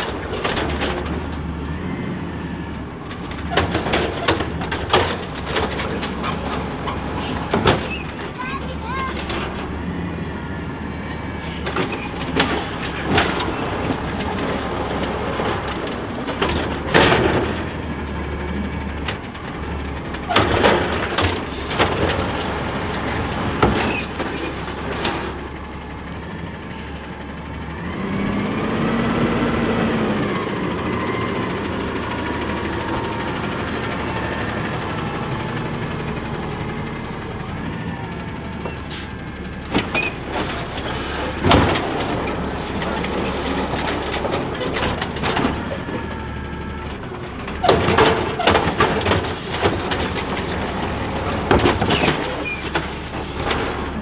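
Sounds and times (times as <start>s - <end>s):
garbage truck engine: 0.0s - 54.0s
trash carts knocking and clattering: 0.0s - 54.0s.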